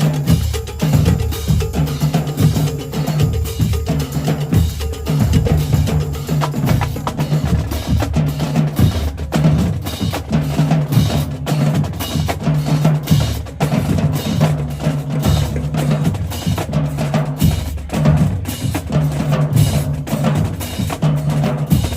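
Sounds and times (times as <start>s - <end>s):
pitched bass drum notes: 0.0s - 21.9s
snare drum strokes: 0.0s - 21.9s.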